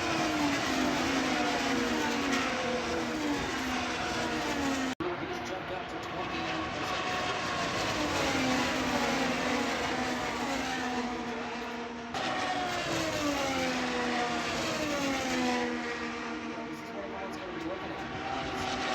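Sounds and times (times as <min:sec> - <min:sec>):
race cars passing by: 0:00.0 - 0:18.9.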